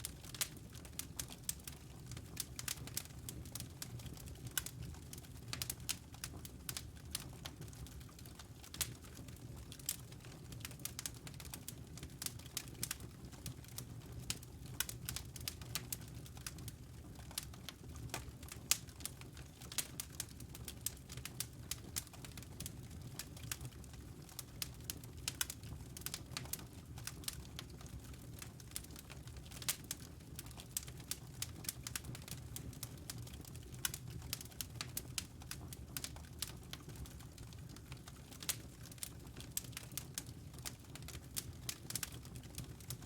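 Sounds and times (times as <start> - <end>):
low rumble of burning logs: 0.0 - 43.0
wood fire crackling: 0.0 - 43.0.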